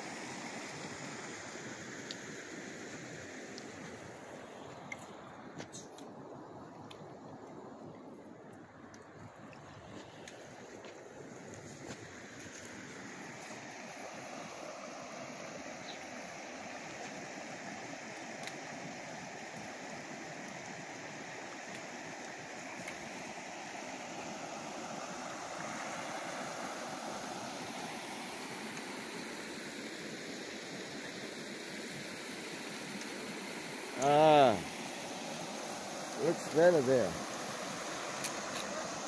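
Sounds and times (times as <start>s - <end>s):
creek water running over rocks: 0.0s - 39.0s.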